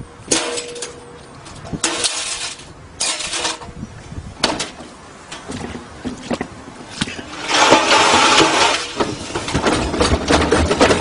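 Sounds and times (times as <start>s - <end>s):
rustling scraping noises: 0.3s - 11.0s.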